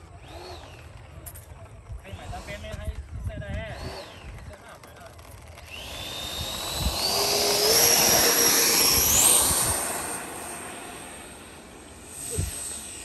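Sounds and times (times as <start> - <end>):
electric ducted fans whining: 0.0 - 13.0.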